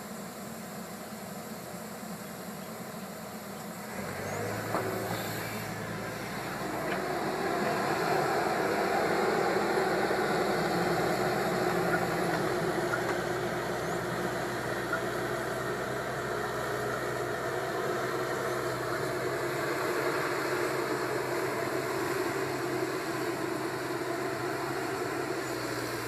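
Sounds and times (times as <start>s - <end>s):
excavator diesel engine running: 2.8s - 26.0s.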